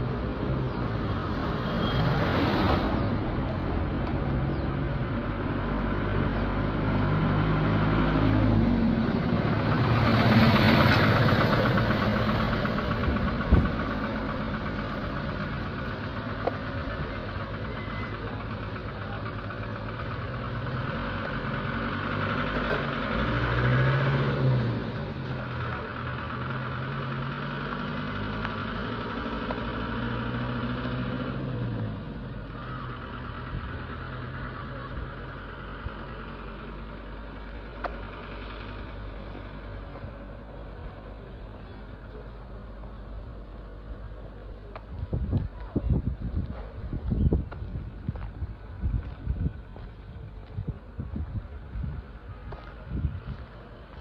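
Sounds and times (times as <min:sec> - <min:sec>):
vehicle engines running: 0:00.0 - 0:54.0.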